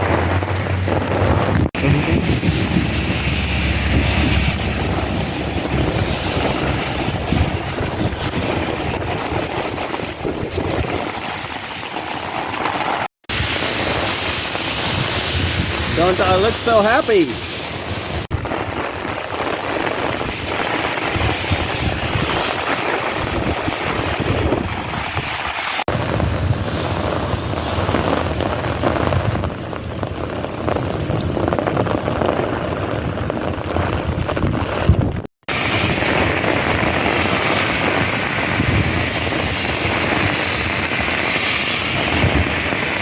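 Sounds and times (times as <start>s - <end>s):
wind buffeting microphone: 0.0s - 11.5s, 13.3s - 16.6s, 17.4s - 43.0s
heavy rain pouring: 0.0s - 43.0s.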